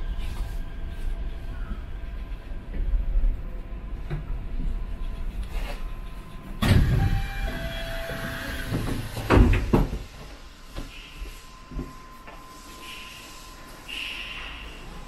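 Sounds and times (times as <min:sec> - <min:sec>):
monorail train rushing: 0:00.0 - 0:09.2, 0:09.9 - 0:15.0.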